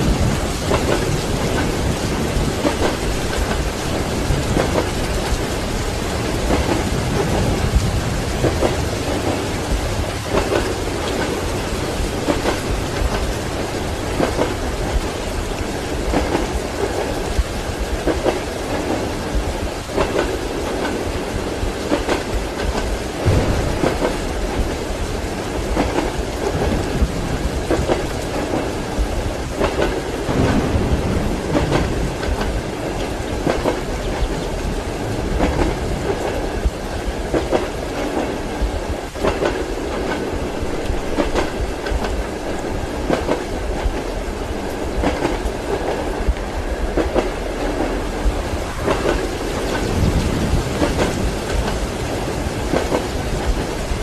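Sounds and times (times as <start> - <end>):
rain: 0.0 - 54.0
train low rumble: 0.0 - 54.0
wheels clacking over rail joints: 0.0 - 54.0.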